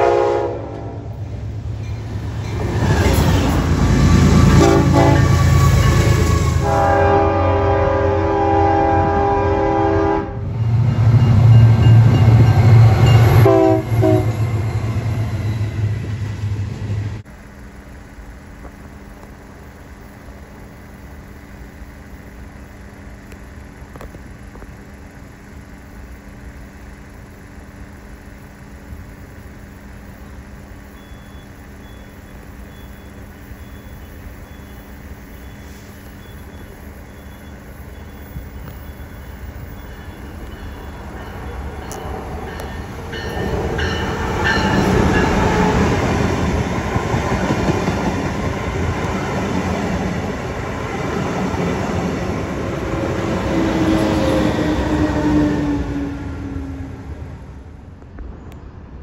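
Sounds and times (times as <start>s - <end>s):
passenger train passing: 0.0s - 59.0s.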